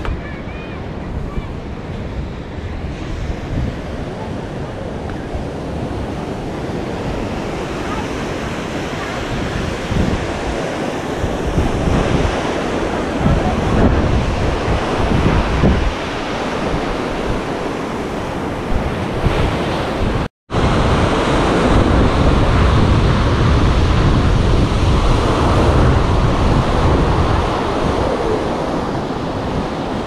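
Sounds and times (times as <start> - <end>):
sea waves washing on shore: 0.0 - 30.0
wind buffeting microphone: 0.0 - 30.0.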